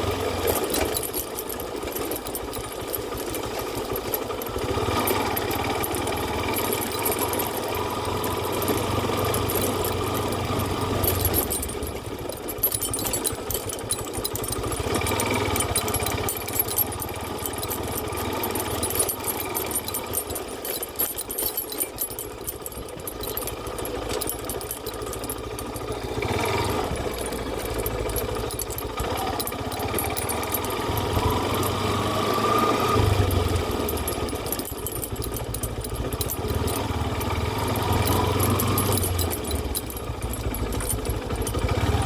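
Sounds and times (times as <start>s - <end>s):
engine rattling: 0.0s - 42.0s.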